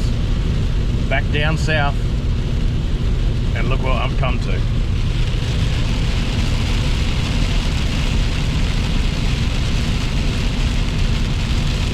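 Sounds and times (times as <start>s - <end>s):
low rumble: 0.0s - 11.9s
rain falling: 0.0s - 11.9s.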